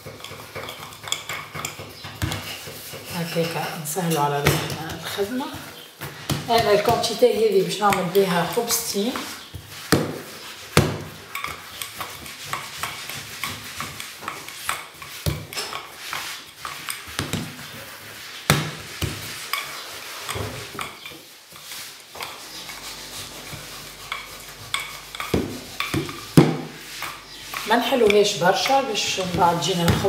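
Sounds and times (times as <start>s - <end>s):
rolling pin rolling dough: 0.0s - 30.0s.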